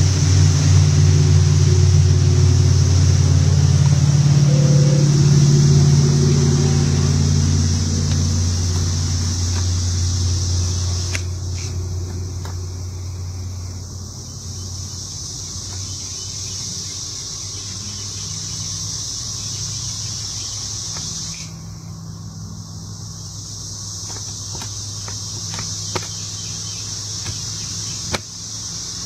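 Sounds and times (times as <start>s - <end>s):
vehicle engine hum: 0.0s - 29.0s
insects chirring in grass: 1.4s - 29.0s.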